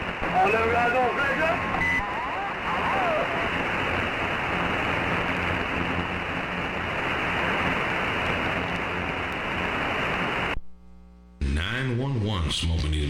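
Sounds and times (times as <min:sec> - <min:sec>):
radio static hiss: 0:00.0 - 0:11.8
faint low hum: 0:00.2 - 0:13.0.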